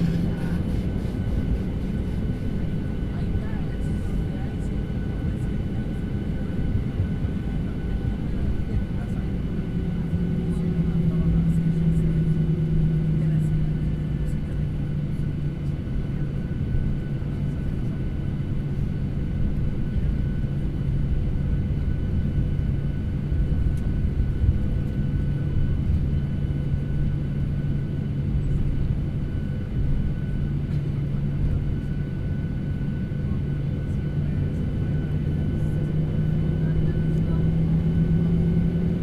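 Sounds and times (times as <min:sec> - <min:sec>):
airliner engines and airflow drone: 0:00.0 - 0:39.0
constant low hum: 0:00.0 - 0:39.0.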